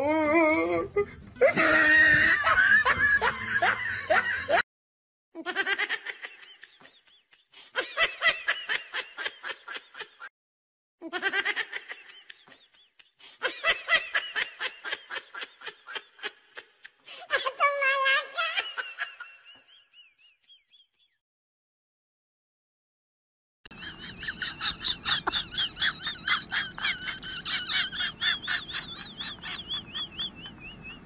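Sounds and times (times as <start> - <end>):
laughter in rhythmic bursts: 1.4 - 4.6, 5.4 - 10.3, 11.0 - 21.2, 23.7 - 31.0.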